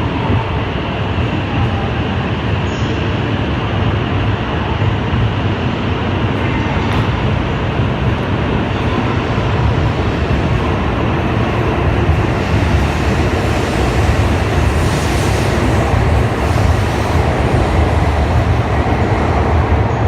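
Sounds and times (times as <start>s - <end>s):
train rumbling through station: 0.0s - 20.0s.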